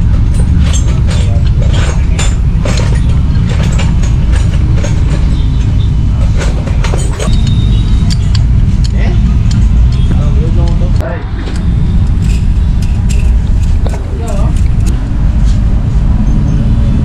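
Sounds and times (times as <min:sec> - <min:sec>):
steady low rumble: 0:00.0 - 0:17.0
metallic clicking of hand tools: 0:00.3 - 0:10.8, 0:11.5 - 0:15.0.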